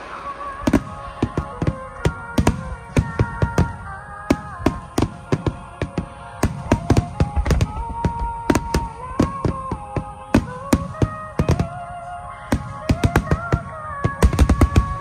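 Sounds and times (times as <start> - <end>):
fireworks banging: 0.0 - 15.0
music with long held notes: 0.0 - 15.0.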